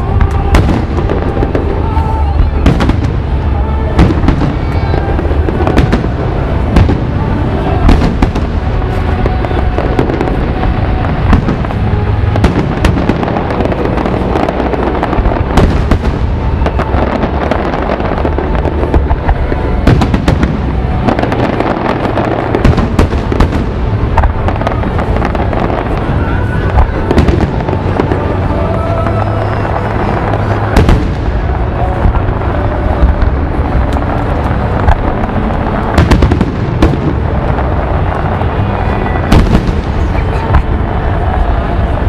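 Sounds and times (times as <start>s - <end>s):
fireworks crackling and popping: 0.0s - 42.0s
music playing: 0.0s - 42.0s.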